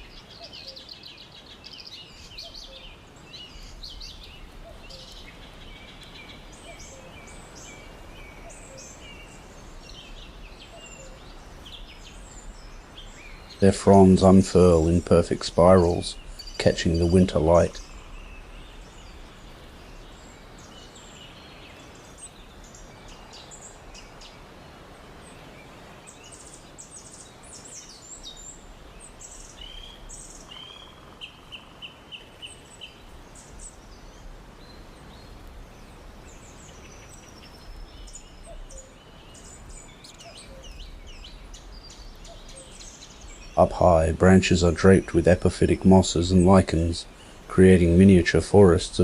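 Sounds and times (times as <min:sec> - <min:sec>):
birds calling and chirping: 0:00.0 - 0:49.0
steady background hiss: 0:00.0 - 0:49.0.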